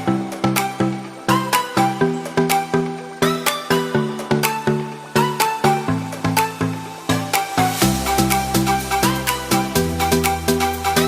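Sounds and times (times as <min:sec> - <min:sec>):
plucked synth electronic music: 0:00.0 - 0:11.0.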